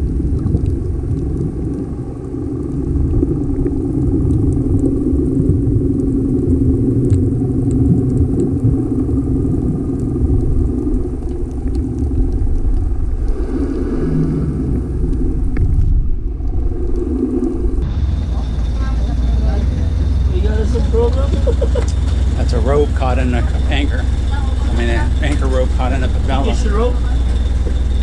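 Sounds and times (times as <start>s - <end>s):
boat engine droning: 0.0s - 15.6s, 16.2s - 28.0s.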